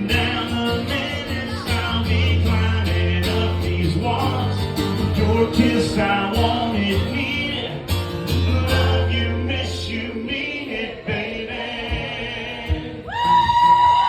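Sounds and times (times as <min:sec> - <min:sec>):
person singing: 0:00.0 - 0:11.3
acoustic backing music: 0:00.0 - 0:14.0.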